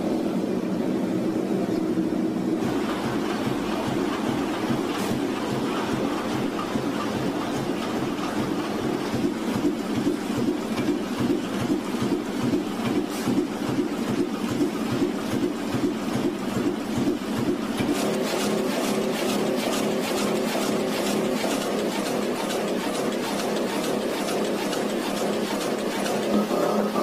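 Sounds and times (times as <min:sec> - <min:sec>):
printing press clattering: 0:02.5 - 0:27.0.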